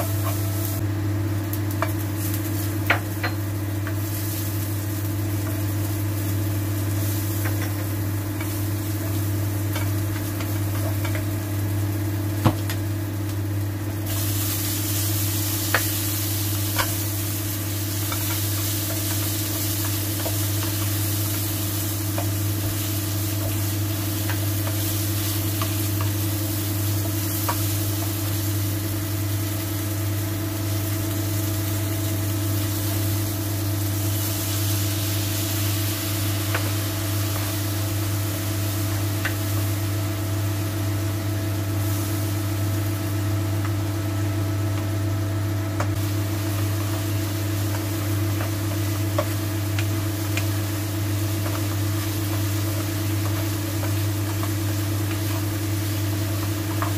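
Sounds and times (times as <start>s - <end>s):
food sizzling in oil: 0.0s - 56.9s
steady low hum: 0.0s - 56.9s.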